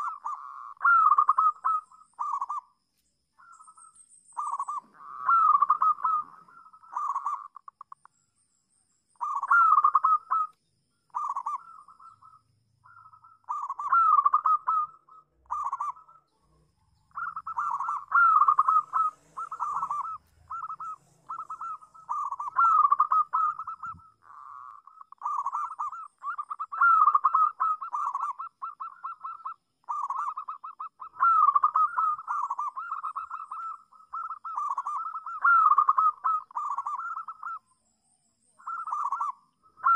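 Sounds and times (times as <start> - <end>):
dove cooing: 0.0 - 2.7, 3.4 - 8.0, 9.2 - 37.6, 38.6 - 39.9.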